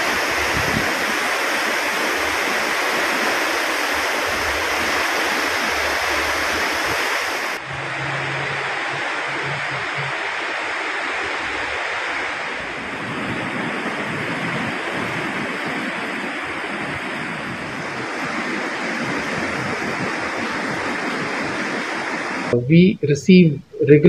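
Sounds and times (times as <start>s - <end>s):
flooded river rushing: 0.0s - 22.6s.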